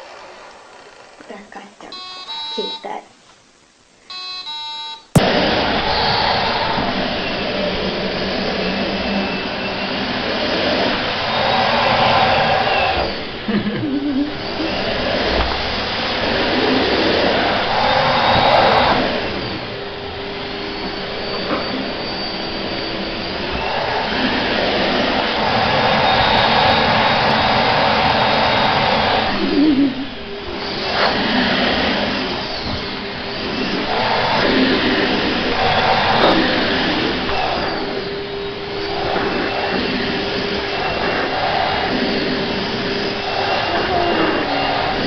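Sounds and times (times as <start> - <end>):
vacuum cleaner drone: 0.0 - 45.0.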